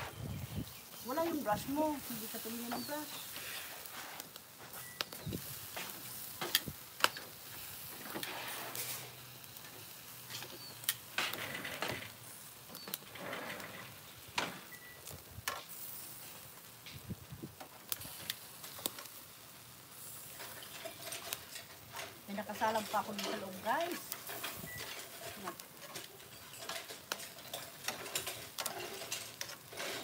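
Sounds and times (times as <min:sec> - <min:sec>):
meat sizzling on a grill: 0:00.0 - 0:30.0.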